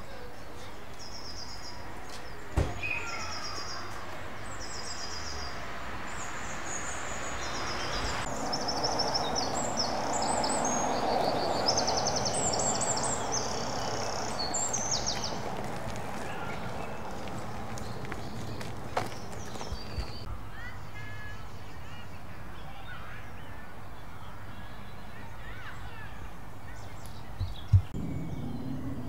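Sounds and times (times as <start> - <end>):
outdoor background noise: 0.0 - 29.0
songbirds trilling: 0.0 - 29.0.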